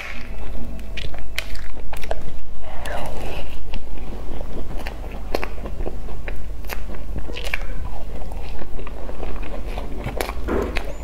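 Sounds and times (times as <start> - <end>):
person chewing pastry: 0.0 - 11.0.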